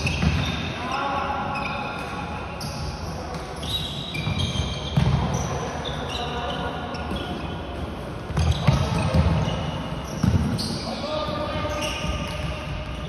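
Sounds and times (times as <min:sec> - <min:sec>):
shoes squeaking on sports floor: 0:00.0 - 0:13.0.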